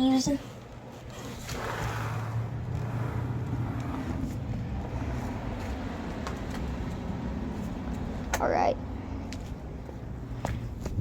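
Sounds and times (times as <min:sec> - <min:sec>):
car engine running: 0:01.0 - 0:10.6.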